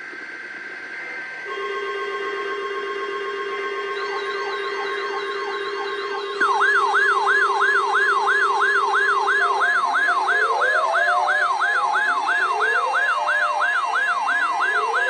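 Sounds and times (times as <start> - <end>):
electronic sirens sweeping: 0.8 - 15.0
loud siren: 1.4 - 15.0.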